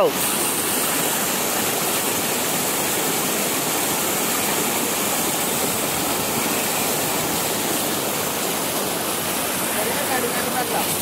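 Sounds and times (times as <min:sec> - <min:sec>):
stream rushing over small waterfall: 0:00.0 - 0:11.0.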